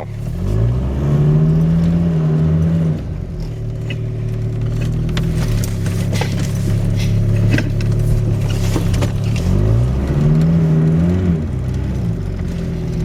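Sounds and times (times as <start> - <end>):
car engine revving under load: 0.0 - 13.0.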